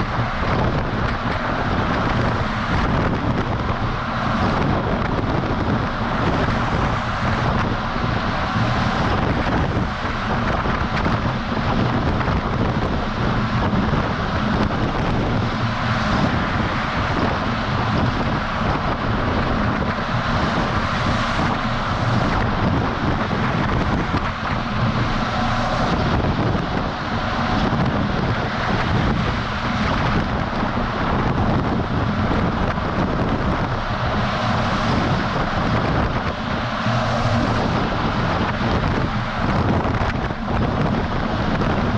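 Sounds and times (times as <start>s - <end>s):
road noise: 0.0s - 41.9s
truck engine drone: 0.0s - 41.9s
wind rush over microphone: 0.0s - 41.9s.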